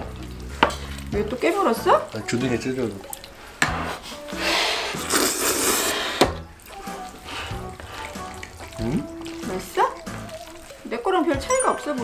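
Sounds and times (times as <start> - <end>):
noodles slurped: 0.0 - 11.0
quiet background music: 0.0 - 12.0.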